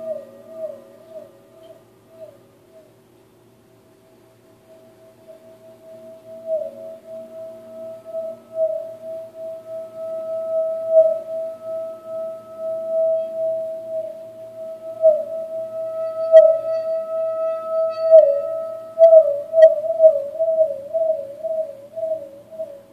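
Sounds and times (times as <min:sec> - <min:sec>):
singing bowl tone: 0:00.0 - 0:22.9.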